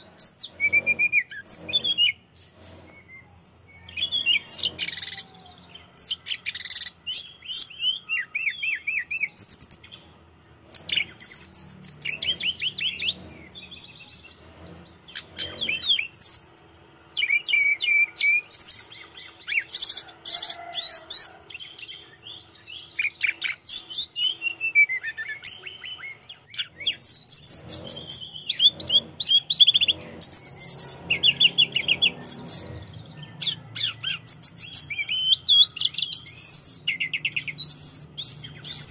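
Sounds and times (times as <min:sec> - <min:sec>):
bird warbling and trilling song: 0:00.0 - 0:38.9.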